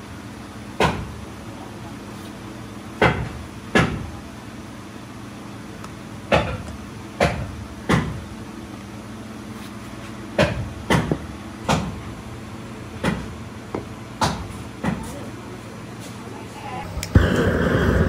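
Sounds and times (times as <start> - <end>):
factory hum: 0.0 - 18.0.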